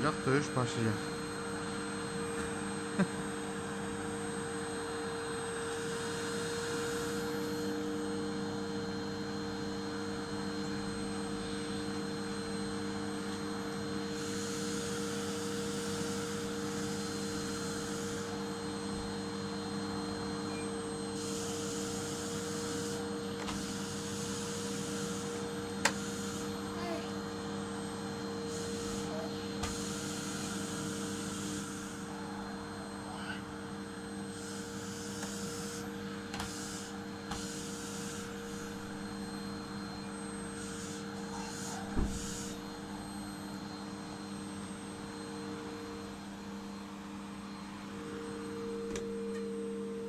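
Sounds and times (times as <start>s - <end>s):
vacuum cleaner running: 0.0s - 50.0s.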